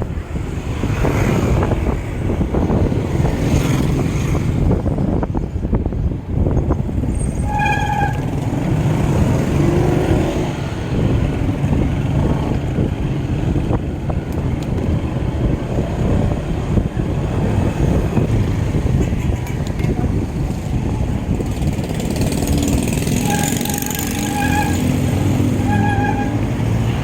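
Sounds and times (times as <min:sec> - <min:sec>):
bicycle road rumble: 0:00.0 - 0:27.0
wind buffeting microphone: 0:00.0 - 0:27.0.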